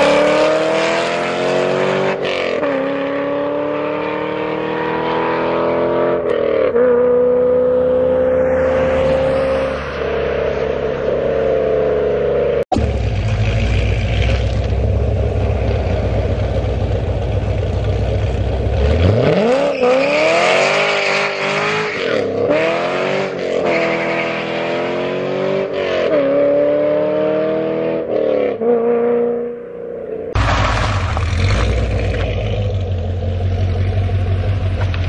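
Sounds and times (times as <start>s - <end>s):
car engine rumbling and accelerating: 0.0s - 35.0s.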